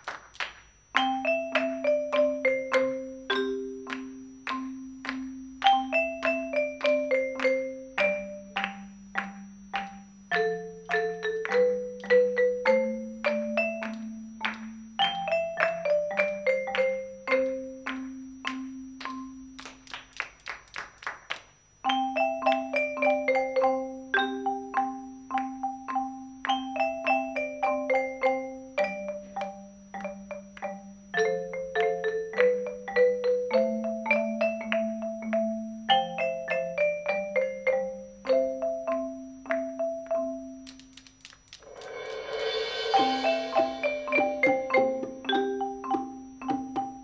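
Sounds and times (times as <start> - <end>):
marimba and xylophone ensemble: 1.0 - 19.6, 21.8 - 40.7, 41.6 - 47.0.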